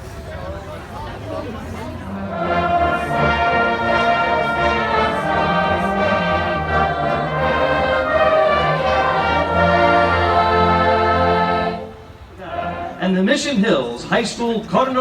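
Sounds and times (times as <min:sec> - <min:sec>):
marching band holding chords: 0:01.9 - 0:15.0.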